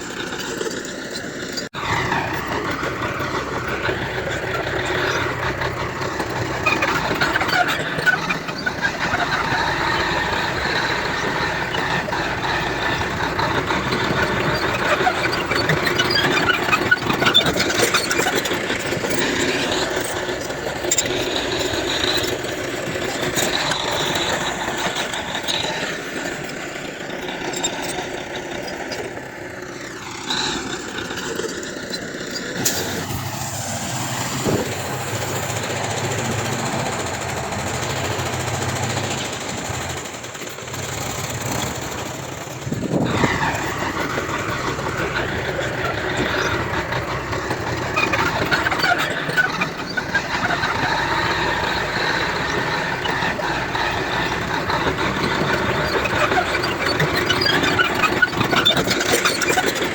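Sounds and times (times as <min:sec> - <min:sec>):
clicks squeaks and rattles: 0:00.0 - 0:59.9
heavy diesel machinery running: 0:00.0 - 0:59.9.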